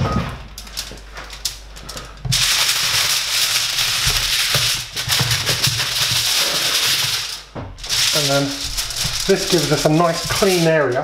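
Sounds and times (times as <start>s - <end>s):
aluminium foil crinkling: 0.6s - 11.0s.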